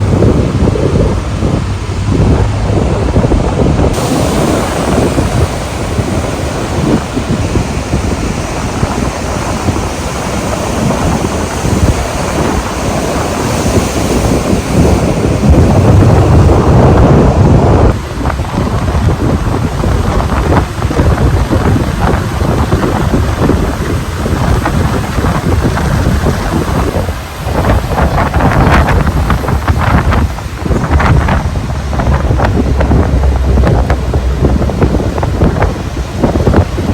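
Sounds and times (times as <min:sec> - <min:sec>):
ocean waves and surf: 0:00.0 - 0:36.9
wind buffeting microphone: 0:00.0 - 0:36.9.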